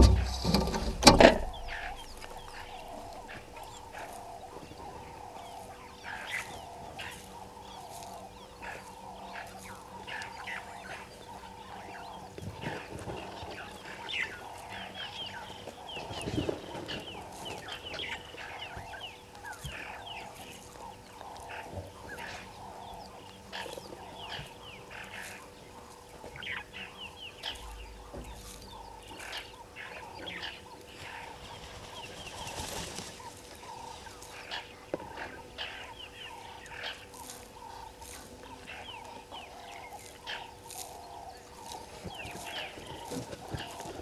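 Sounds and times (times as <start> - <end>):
birds chirping: 0.0 - 44.0
faint steady hum: 0.0 - 44.0.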